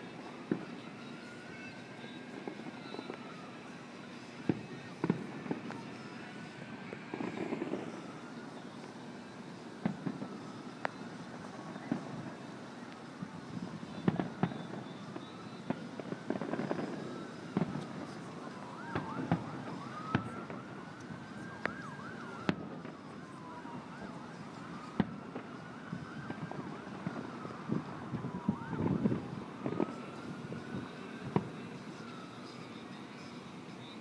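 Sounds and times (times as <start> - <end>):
distant fireworks bursting: 0.0 - 32.9
emergency siren wailing: 0.0 - 34.0.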